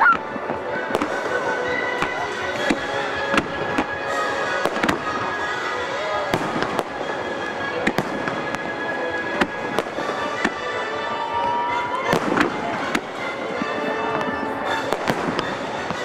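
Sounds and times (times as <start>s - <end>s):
fireworks bursting: 0.0s - 16.0s
show tunes over speakers: 0.0s - 16.0s.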